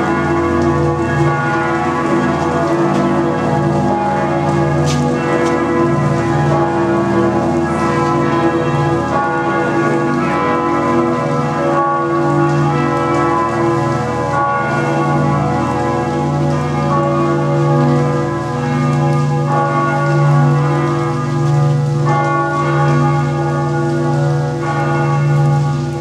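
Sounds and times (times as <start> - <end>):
church bells ringing in a peal: 0.0 - 26.0.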